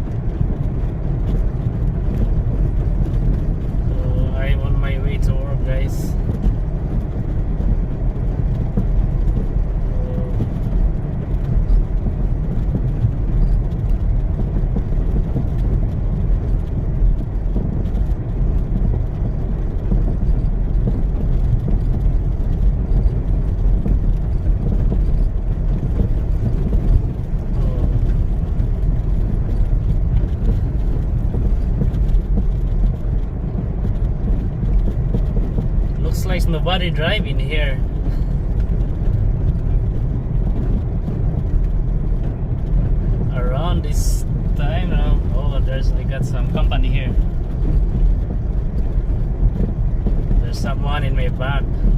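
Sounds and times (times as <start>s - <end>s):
car engine rumble: 0.0s - 51.9s
tyres running through snow: 0.0s - 51.9s.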